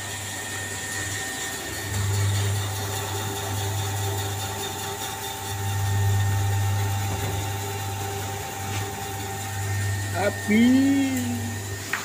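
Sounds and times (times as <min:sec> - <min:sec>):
feed mixer machine hum: 0:00.0 - 0:12.0.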